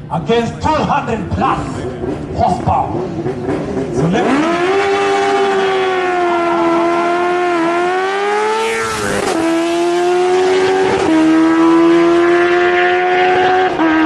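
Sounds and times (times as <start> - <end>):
motorcycle engines at high revs: 1.4 - 14.0.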